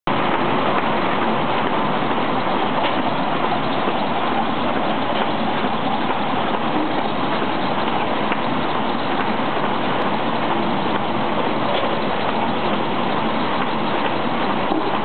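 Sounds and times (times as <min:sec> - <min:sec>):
book-sewing machine running: 0:00.1 - 0:15.0.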